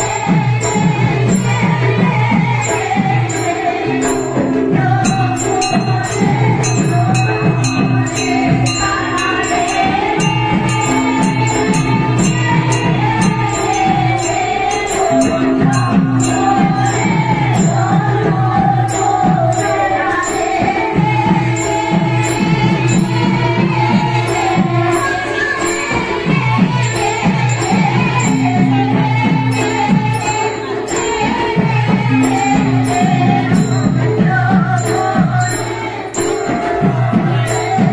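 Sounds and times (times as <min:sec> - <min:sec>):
devotional singing: 0:00.0 - 0:37.9
drumming: 0:00.0 - 0:37.9
hand cymbals clashing: 0:00.0 - 0:37.9.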